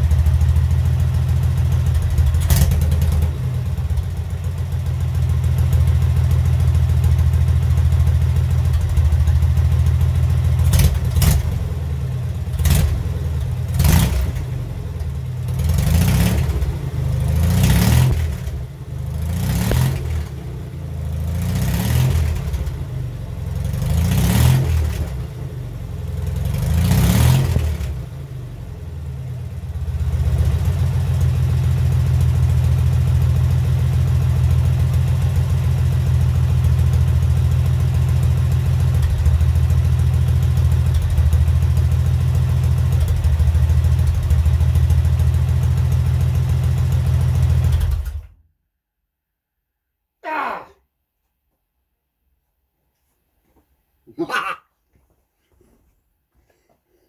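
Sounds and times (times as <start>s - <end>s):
motorcycle engine idling and revving: 0.0s - 48.4s.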